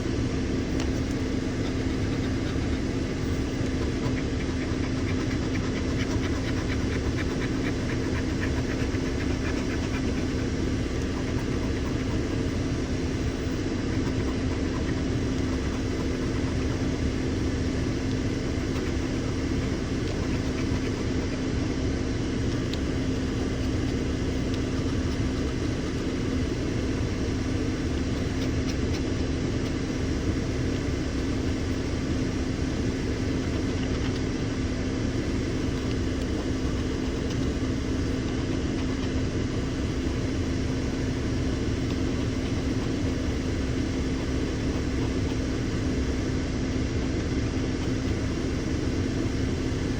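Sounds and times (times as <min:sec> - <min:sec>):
mechanical humming drone: 0:00.0 - 0:49.9.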